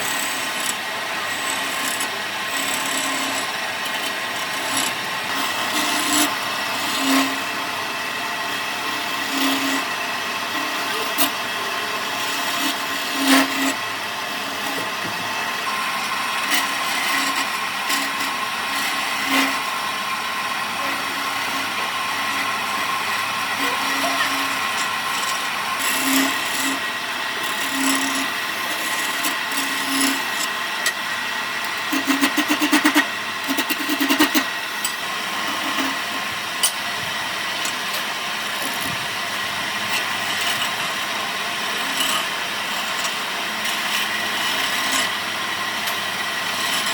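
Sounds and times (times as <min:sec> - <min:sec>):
power tool whining on wood: 0:00.0 - 0:46.9.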